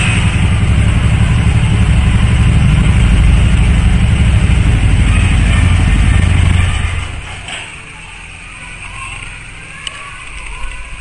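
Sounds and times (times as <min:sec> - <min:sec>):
small motorcycle engine running: 0:00.0 - 0:10.6.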